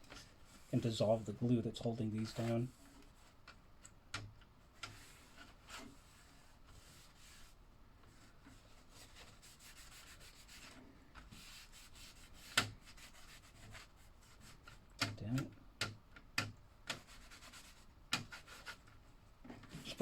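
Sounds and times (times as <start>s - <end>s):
faint rubbing and scrubbing: 0.0s - 3.4s, 4.7s - 14.8s, 16.9s - 20.0s.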